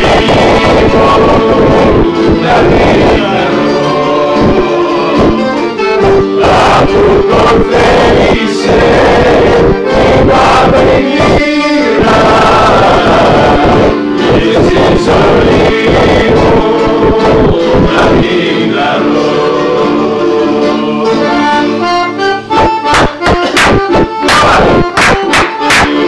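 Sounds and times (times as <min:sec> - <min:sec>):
men singing in unison: 0:00.0 - 0:21.8
accordion: 0:00.0 - 0:26.0
acoustic guitar: 0:00.0 - 0:26.0
bouzouki: 0:00.0 - 0:26.0.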